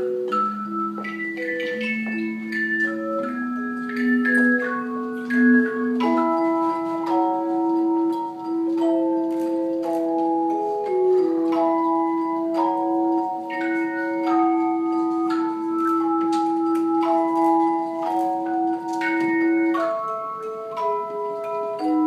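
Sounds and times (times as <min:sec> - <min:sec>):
tone chimes playing chords: 0:00.0 - 0:22.0.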